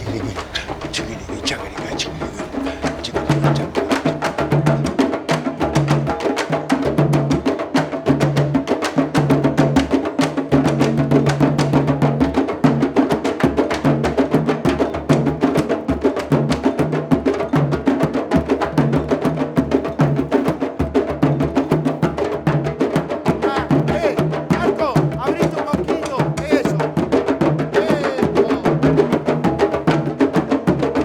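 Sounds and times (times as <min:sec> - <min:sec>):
hand and stick drumming: 0:00.0 - 0:31.0.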